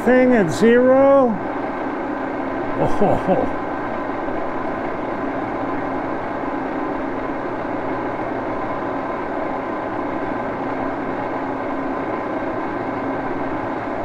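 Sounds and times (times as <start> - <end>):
lathe running with whining hum: 0.0 - 14.0.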